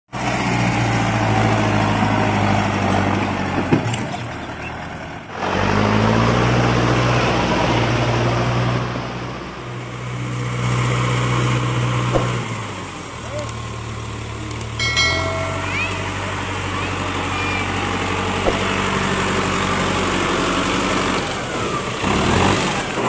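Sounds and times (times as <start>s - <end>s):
tractor diesel engine running: 0.1s - 23.0s.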